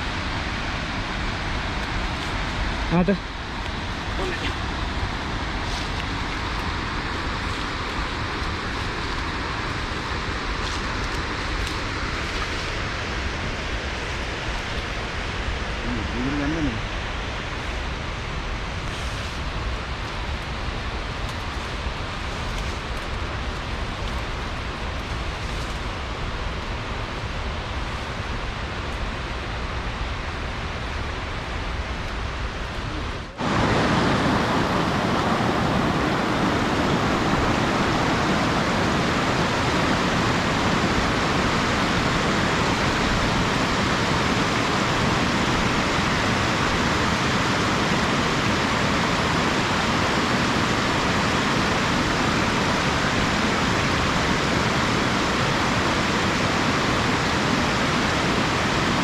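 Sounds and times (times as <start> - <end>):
waterfall stream rushing: 0.0 - 59.0.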